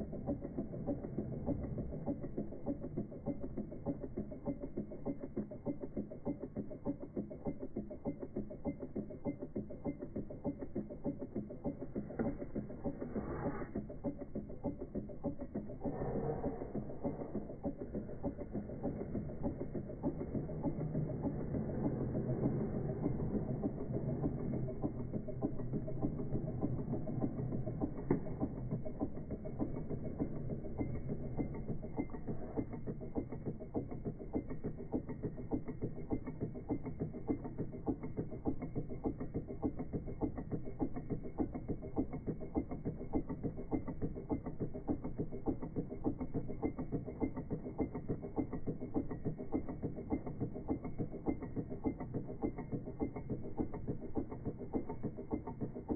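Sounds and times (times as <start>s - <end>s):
engine rapid mechanical ticking: 0.0s - 55.9s.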